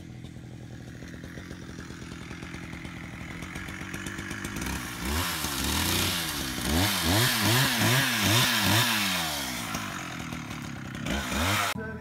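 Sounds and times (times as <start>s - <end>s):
small engine revving: 0.0s - 12.0s.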